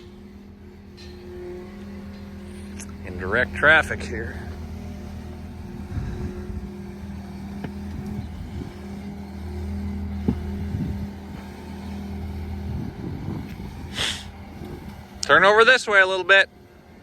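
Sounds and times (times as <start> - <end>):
skid steer engine humming: 0.0 - 17.0.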